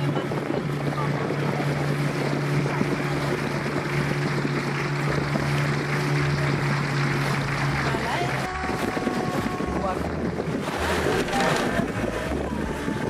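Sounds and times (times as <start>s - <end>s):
boat engine running: 0.0s - 13.0s
rushing water: 0.0s - 13.0s
wind buffeting microphone: 0.0s - 13.0s.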